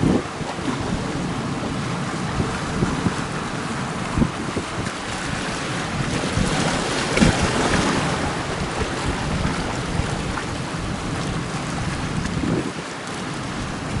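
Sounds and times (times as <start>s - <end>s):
sea surf: 0.0s - 14.0s
wind buffeting microphone: 0.0s - 14.0s.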